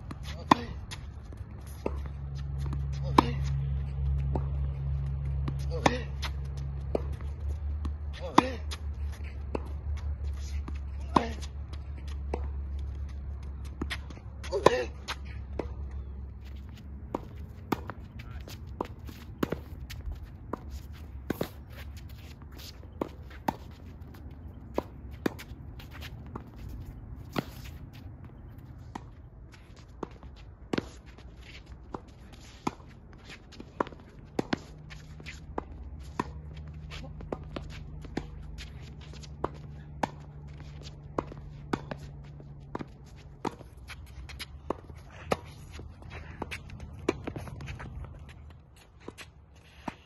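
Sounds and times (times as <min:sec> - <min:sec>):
low rumble of wind or traffic: 0:00.0 - 0:50.0
tennis rackets hitting ball: 0:00.0 - 0:50.0.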